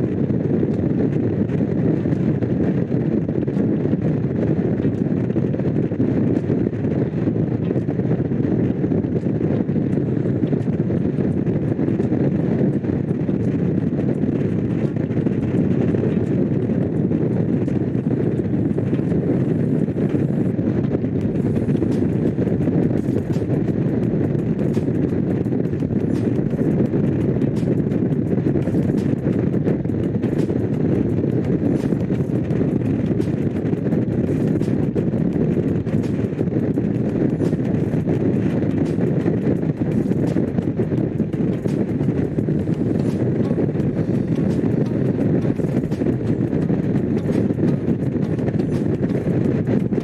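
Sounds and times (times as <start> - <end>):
motorcycle engine running: 9.0 - 50.0.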